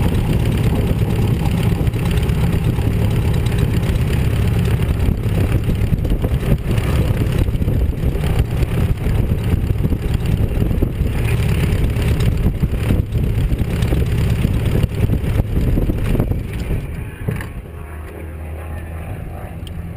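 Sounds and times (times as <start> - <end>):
aircraft engine drone: 0.0 - 19.9.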